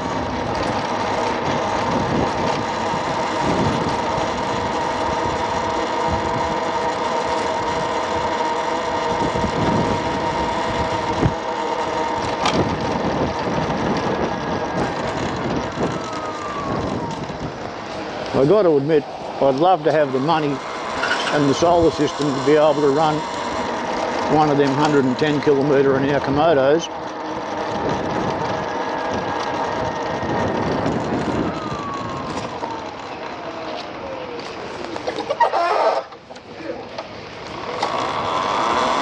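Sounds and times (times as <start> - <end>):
electric scooter motor whine: 0.0 - 39.0
wind and road noise: 0.0 - 39.0.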